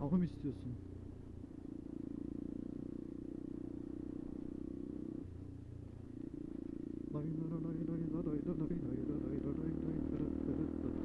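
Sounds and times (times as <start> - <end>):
small motorcycle engine: 0.2 - 11.0.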